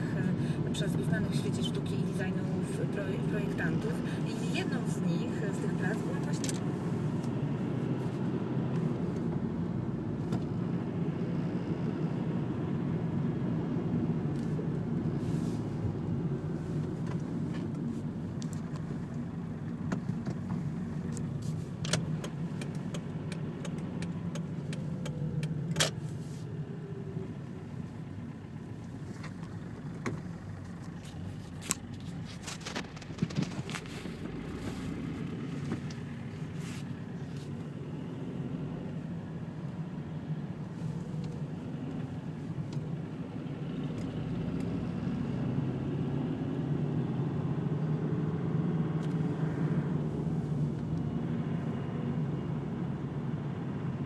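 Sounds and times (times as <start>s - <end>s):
car driving road noise: 0.0s - 54.0s.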